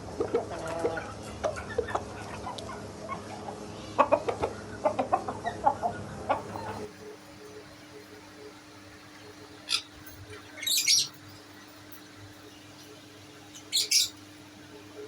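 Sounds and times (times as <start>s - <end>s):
chickens clucking: 0.1s - 15.0s.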